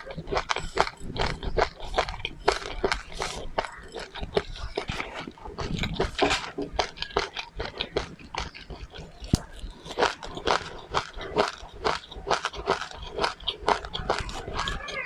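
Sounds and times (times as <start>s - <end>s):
person chewing and crunching seeds: 0.0s - 15.0s.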